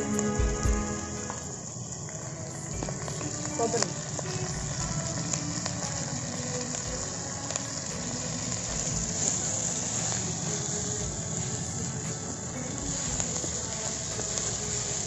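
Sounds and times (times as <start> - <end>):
greens sizzling in a pot: 0.0 - 15.0.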